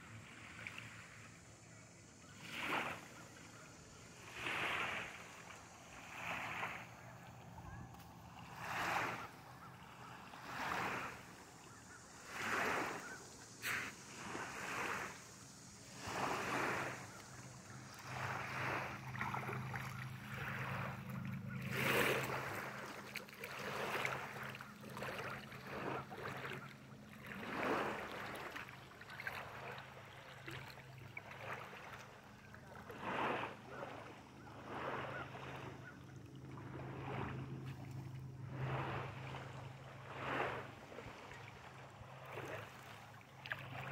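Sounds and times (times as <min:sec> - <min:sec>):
small waves lapping on sand: 0:00.0 - 0:43.9.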